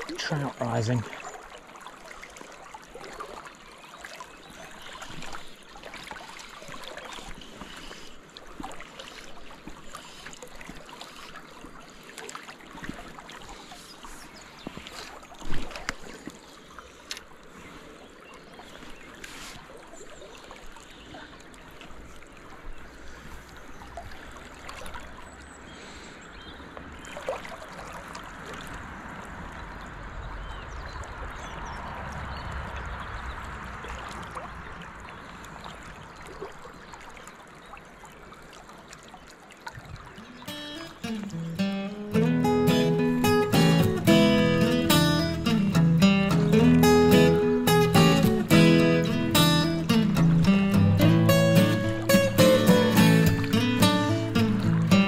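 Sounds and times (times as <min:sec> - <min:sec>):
river water rushing: 0:00.0 - 0:26.2, 0:31.2 - 0:55.0.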